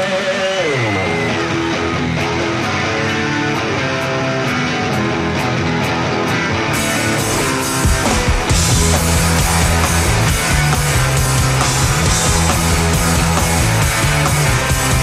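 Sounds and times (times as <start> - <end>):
drums and heavy bass: 0.0 - 15.0
rock guitar: 0.0 - 15.0.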